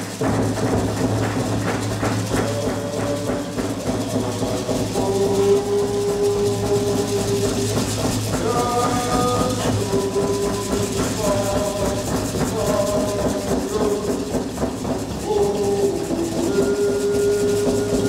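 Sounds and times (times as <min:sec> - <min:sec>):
drumbeats: 0:00.0 - 0:18.0
steady whistle-like tones: 0:00.0 - 0:18.0.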